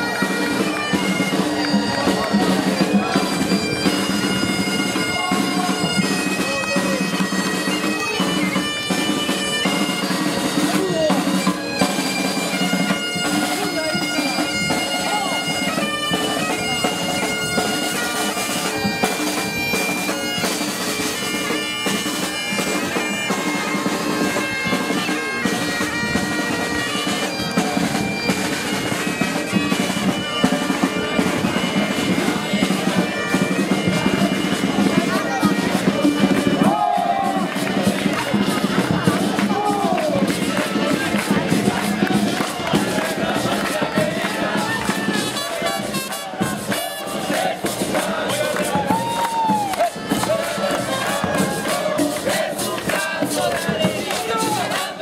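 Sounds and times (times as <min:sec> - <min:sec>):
bagpipes playing over drones: 0:00.0 - 0:55.0
drum beating: 0:00.0 - 0:55.0.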